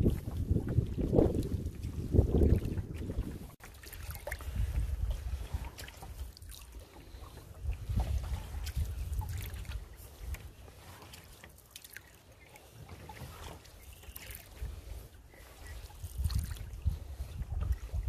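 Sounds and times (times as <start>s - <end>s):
wind rumble on microphone: 0.0s - 10.9s, 13.2s - 18.0s
small splashes and clicks: 0.0s - 14.7s, 15.9s - 16.8s
water dripping off paddle: 0.6s - 18.0s.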